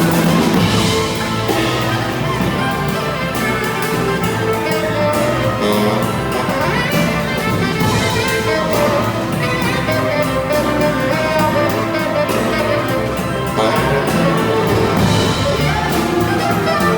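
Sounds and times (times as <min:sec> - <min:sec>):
brass: 0:00.0 - 0:16.9
steady drum beat: 0:00.0 - 0:16.9
strings: 0:00.0 - 0:16.9.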